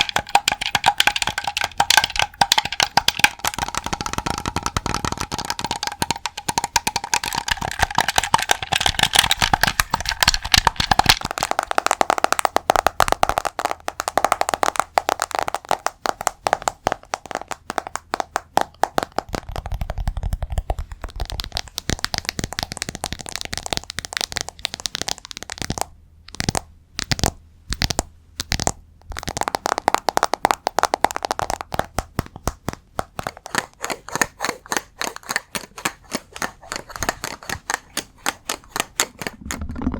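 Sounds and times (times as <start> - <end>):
rapid tapping: 0.0 - 39.9.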